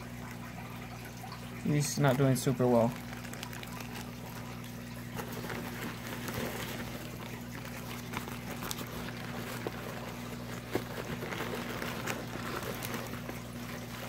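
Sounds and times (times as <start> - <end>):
low hum and hiss: 0.0 - 14.0
water sloshing in bags: 0.0 - 14.0
plastic bags rustling: 1.6 - 14.0.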